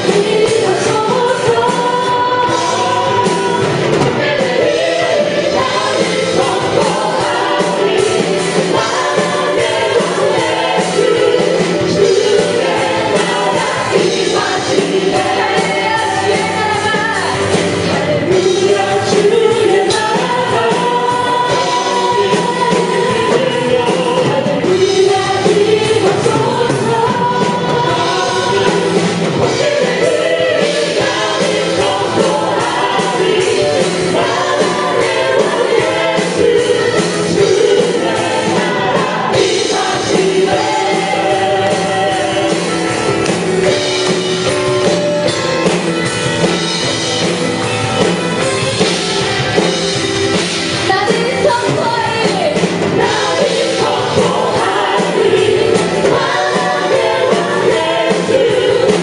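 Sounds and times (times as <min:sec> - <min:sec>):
worship band with group singing: 0:00.0 - 0:59.0.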